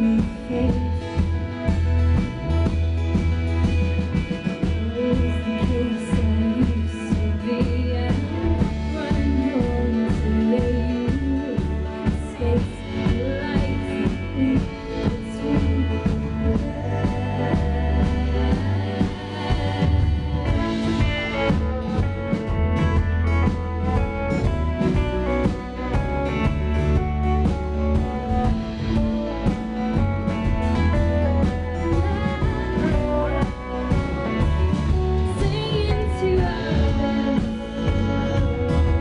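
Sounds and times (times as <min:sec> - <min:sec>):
live band playing: 0:00.0 - 0:39.0
steady drum beat: 0:00.0 - 0:39.0.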